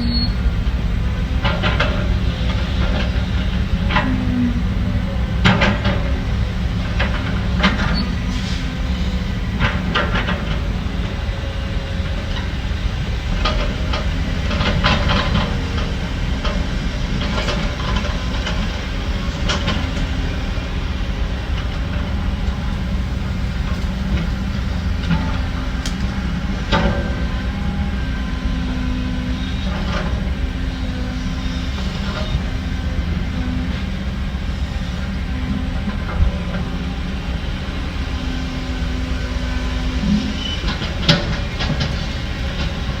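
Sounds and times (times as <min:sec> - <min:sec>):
diesel machinery rumbling: 0:00.0 - 0:43.0.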